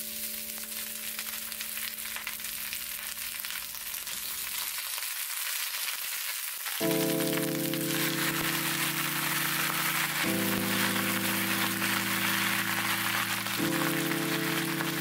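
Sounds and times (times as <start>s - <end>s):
greens sizzling in a frying pan: 0.0s - 15.0s.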